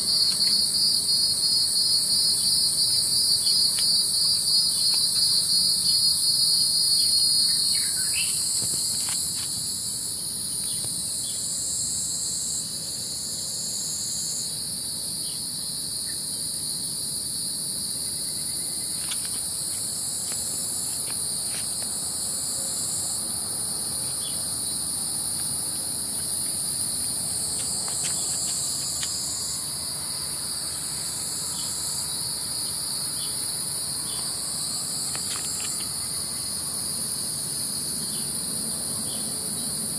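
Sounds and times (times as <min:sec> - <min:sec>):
insects buzzing trill: 0:00.0 - 0:39.9.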